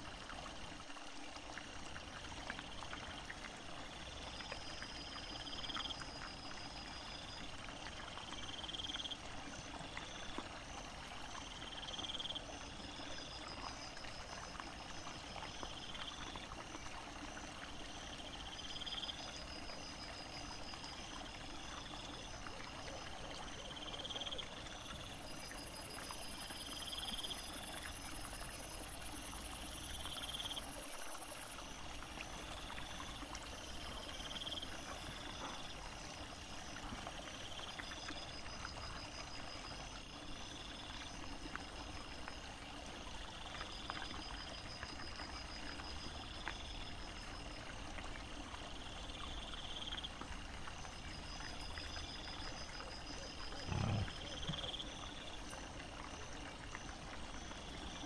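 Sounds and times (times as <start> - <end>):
hiss of flowing water: 0.0 - 58.0.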